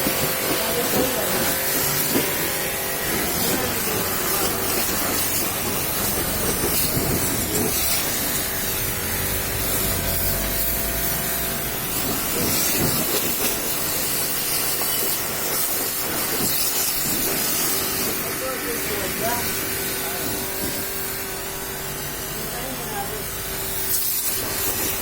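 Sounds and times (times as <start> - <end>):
high-pressure water jet spraying: 0.0 - 25.0.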